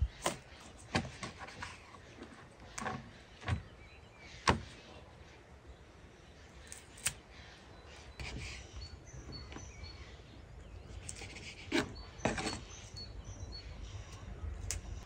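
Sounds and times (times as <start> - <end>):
faint bird chirps: 1.5 - 15.0.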